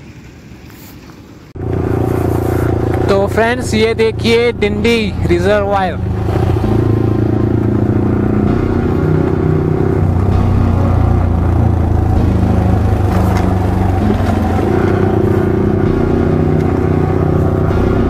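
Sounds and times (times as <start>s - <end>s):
motorcycle engine running: 1.6s - 18.0s.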